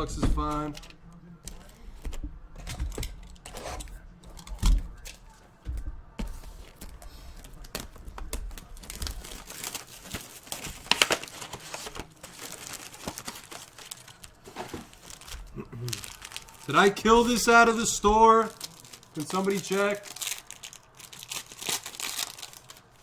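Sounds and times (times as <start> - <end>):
plastic wrapping crinkling: 0.0 - 23.0.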